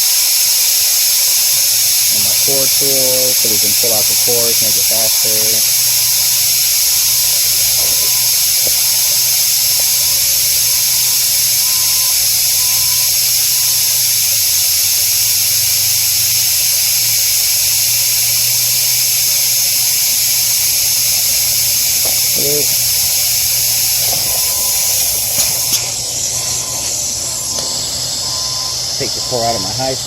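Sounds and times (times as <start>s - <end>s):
loud high-pitched hiss: 0.0s - 30.0s
machine motor hum: 0.0s - 30.0s.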